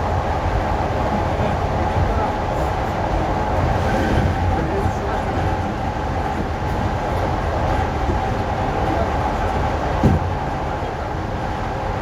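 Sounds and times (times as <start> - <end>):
electric train rumble with high tone: 0.0 - 12.0.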